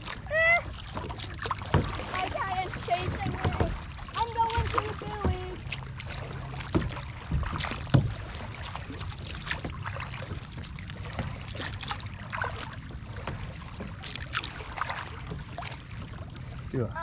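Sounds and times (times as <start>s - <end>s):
paddle strokes splashing: 0.0s - 17.0s
water lapping at hull: 0.0s - 17.0s.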